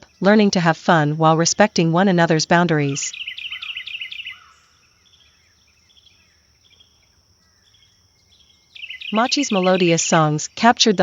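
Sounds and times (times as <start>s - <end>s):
bird chirping: 0.0s - 11.0s
quiet outdoor ambience: 0.0s - 11.0s.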